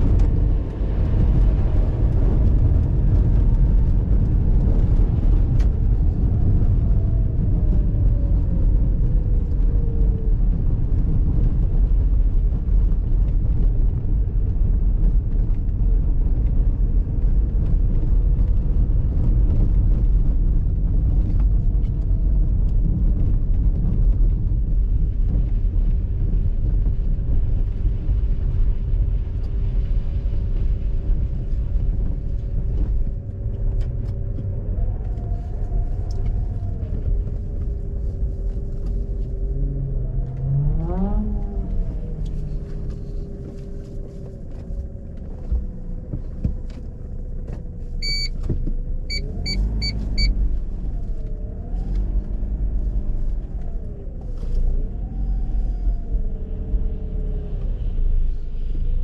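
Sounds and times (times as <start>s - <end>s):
road rumble: 0.0s - 59.0s
rotary car engine: 0.0s - 59.0s.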